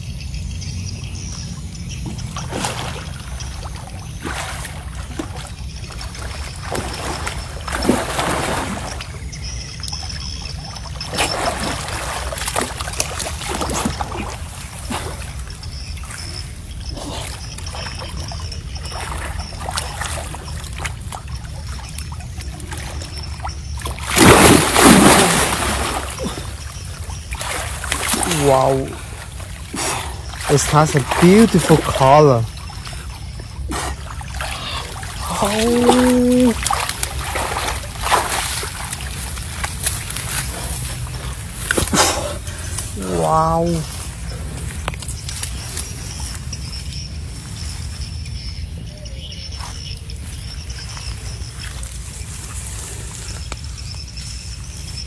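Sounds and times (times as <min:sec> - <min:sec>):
pond water splashing: 0:01.1 - 0:48.8.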